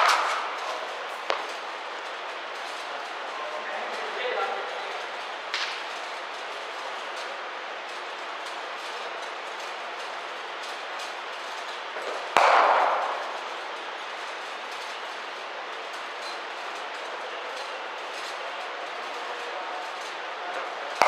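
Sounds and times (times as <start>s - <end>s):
indoor hall background noise: 0.0s - 21.0s.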